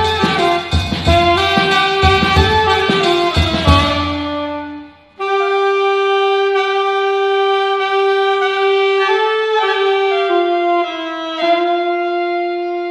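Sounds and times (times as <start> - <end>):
reed woodwind slow melody: 0.0 - 12.9.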